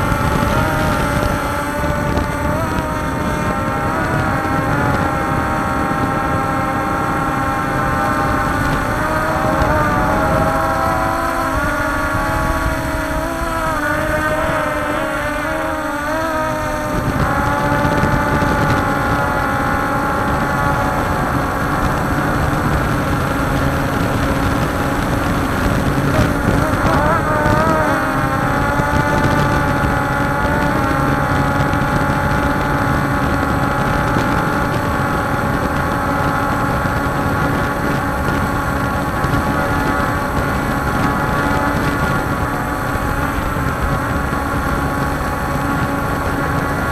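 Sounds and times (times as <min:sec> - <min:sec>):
drone propellers whining: 0:00.0 - 0:46.9.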